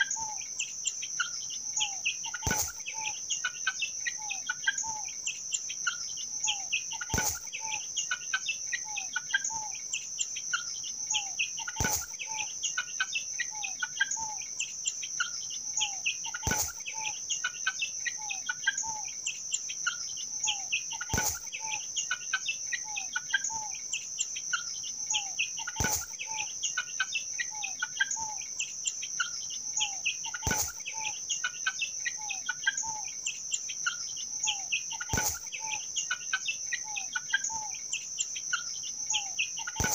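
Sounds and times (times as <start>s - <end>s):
chickens and chicks peeping: 0.0s - 39.9s
high insect drone: 0.0s - 39.9s.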